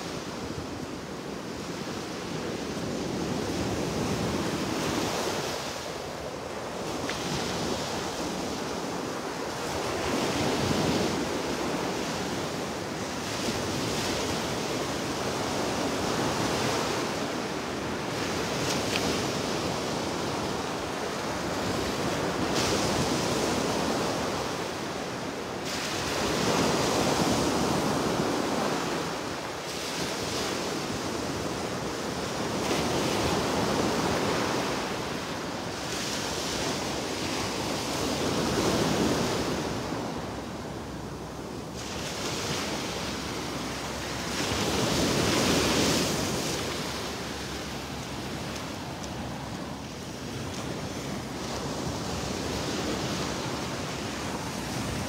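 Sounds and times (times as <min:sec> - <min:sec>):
surf breaking on sandy beach: 0:00.0 - 0:55.0.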